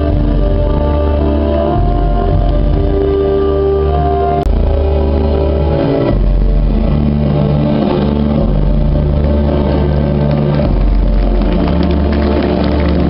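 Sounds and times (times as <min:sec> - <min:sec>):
deep steady bass: 0:00.0 - 0:13.0
slow long-held notes: 0:00.0 - 0:13.0.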